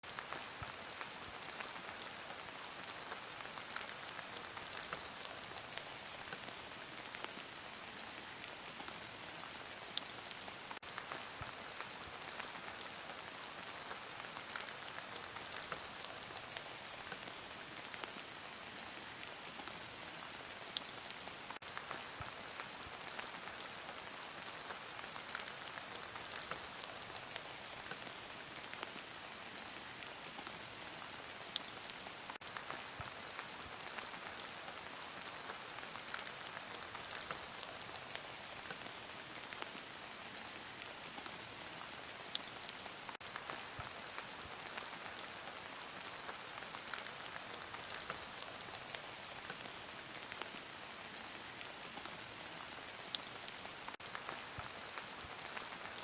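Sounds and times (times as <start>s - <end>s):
raindrops ticking on surface: 0.1s - 56.0s.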